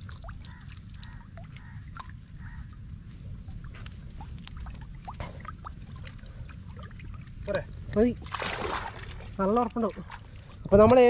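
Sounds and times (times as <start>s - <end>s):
river water sloshing: 0.0s - 11.0s.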